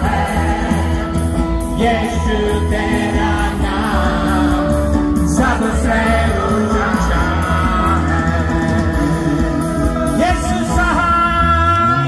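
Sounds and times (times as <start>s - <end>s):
worship band through loudspeakers: 0.0s - 12.0s.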